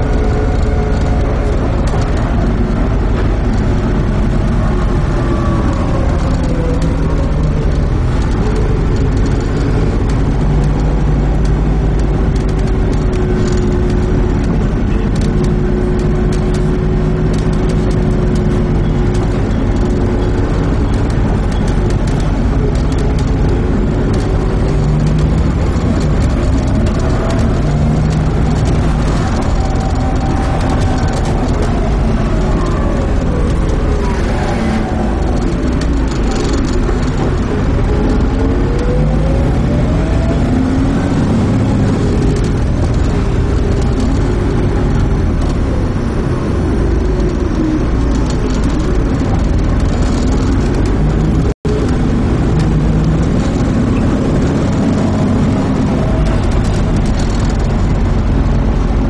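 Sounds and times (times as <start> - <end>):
bus engine: 0.0 - 59.0
drivetrain whine: 0.0 - 59.0.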